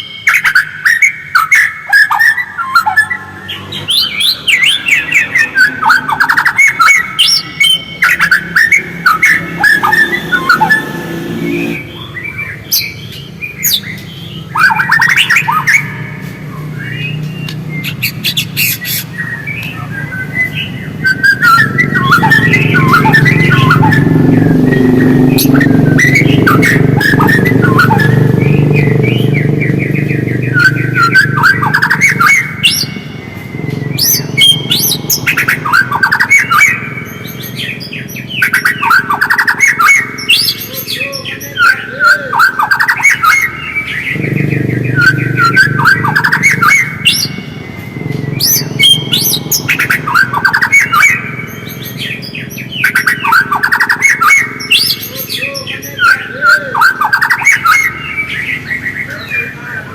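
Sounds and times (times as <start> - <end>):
bird singing trills and whistles: 0.0 - 59.9.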